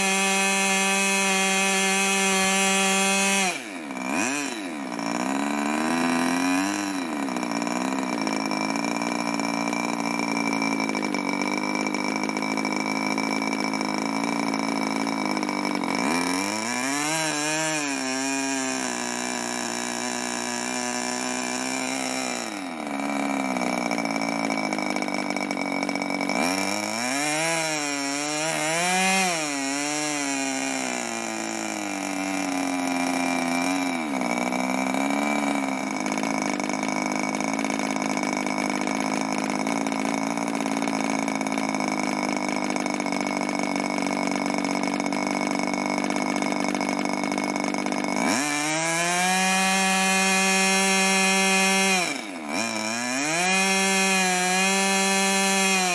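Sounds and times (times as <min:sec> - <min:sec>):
model engine running: 0:00.0 - 0:55.9.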